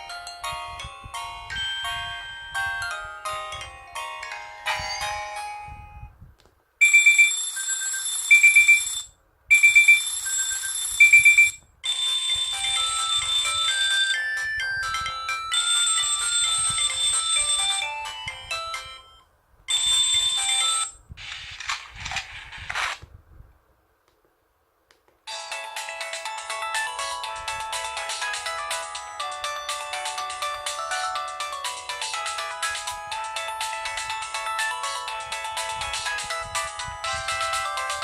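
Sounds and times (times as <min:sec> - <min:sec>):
phone ringtone synth melody: 0:00.0 - 0:06.1, 0:06.8 - 0:21.0, 0:25.3 - 0:38.0.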